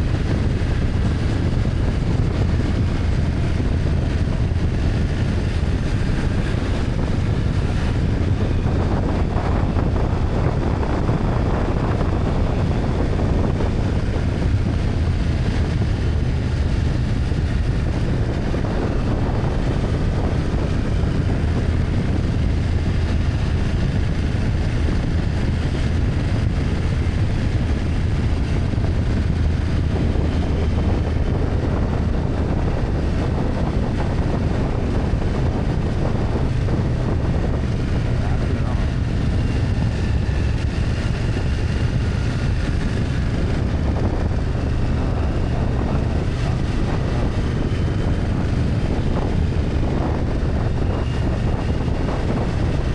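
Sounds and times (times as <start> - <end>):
motorcycle engine running: 0.0 - 52.9
wind on microphone: 0.0 - 52.9.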